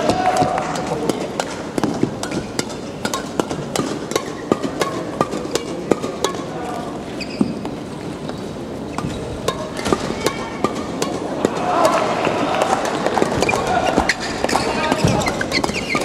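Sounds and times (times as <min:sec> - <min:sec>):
rackets hitting shuttlecocks: 0:00.0 - 0:16.0.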